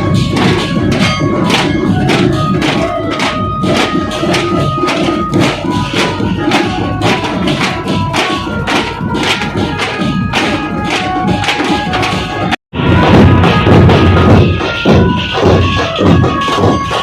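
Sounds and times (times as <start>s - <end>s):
dhol drums: 0.0s - 17.0s
ringing cymbals: 0.0s - 17.0s
tasha snare drums: 0.0s - 17.0s.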